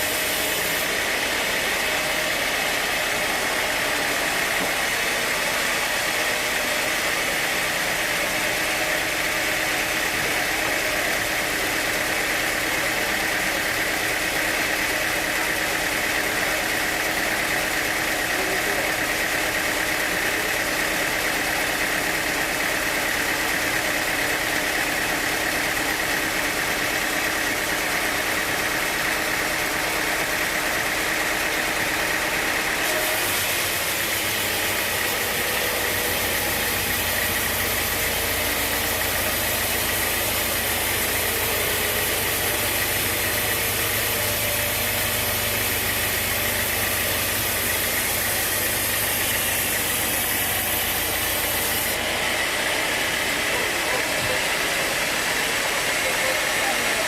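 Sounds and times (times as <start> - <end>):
sawmill machinery drone with hiss: 0.0 - 57.0.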